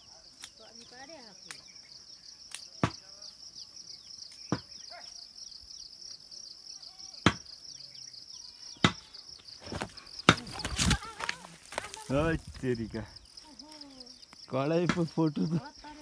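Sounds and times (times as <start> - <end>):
faint chirps: 0.0 - 16.0
insect chorus shrilling: 0.0 - 16.0.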